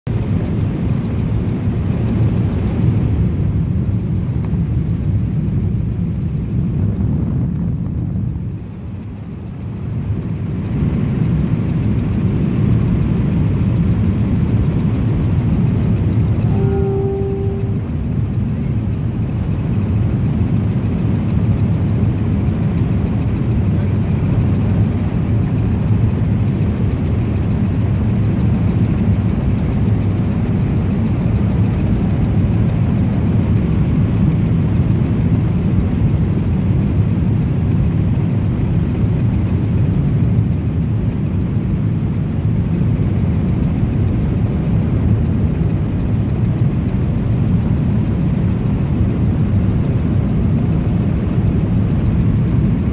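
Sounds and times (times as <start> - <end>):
helicopter engine and rotor drone: 0.1 - 52.9.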